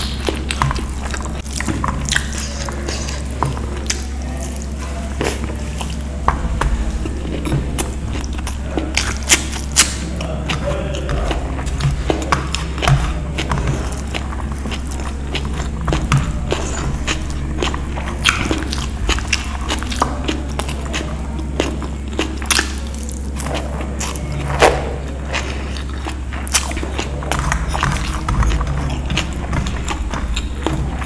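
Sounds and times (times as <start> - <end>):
hand squishing sticky rice: 0.0 - 31.0
steady low hum: 0.0 - 31.0.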